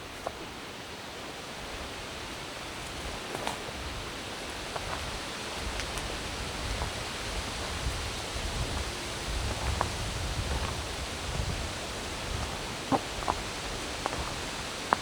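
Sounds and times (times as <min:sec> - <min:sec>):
steady rushing hiss: 0:00.0 - 0:15.0
footsteps on woodland trail: 0:01.8 - 0:15.0.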